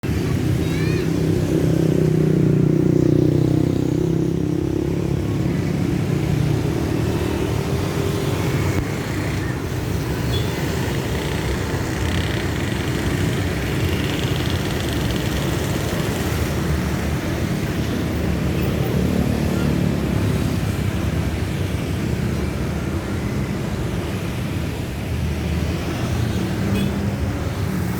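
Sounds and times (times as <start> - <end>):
low rumble of traffic: 0.0 - 27.9.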